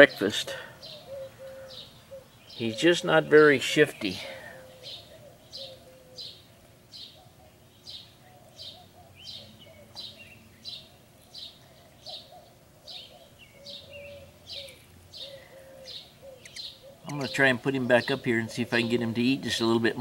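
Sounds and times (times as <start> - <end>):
small bird chirping: 0.8 - 20.0.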